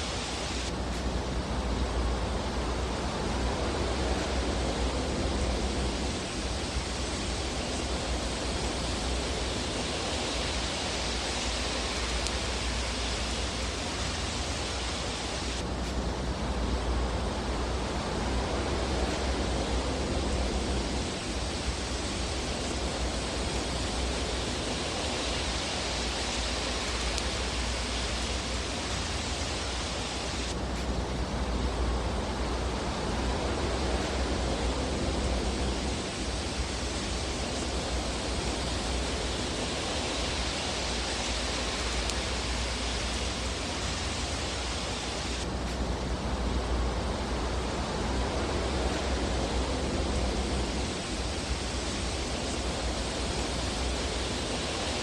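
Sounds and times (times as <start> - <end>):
fire hissing and rumbling: 0.0 - 55.0.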